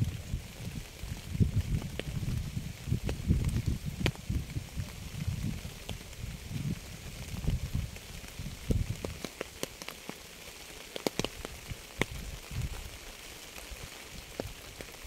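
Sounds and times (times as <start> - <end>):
rain hissing: 0.0 - 15.0
raindrops tapping: 0.0 - 15.0.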